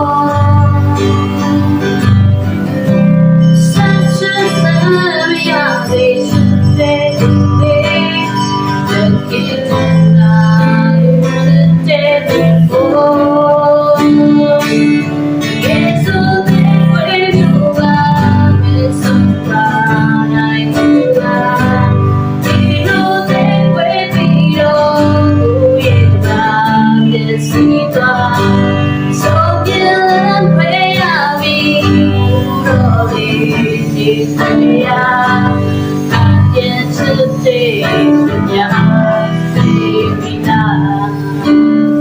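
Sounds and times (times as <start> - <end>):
guitar song accompaniment: 0.0 - 42.0
woman singing: 0.0 - 42.0.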